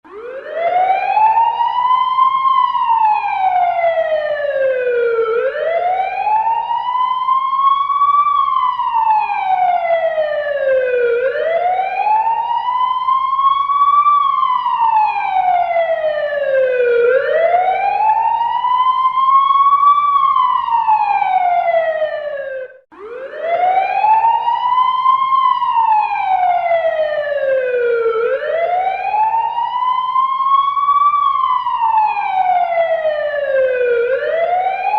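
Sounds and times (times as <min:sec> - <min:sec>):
fire engine siren wailing: 0:00.0 - 0:34.9.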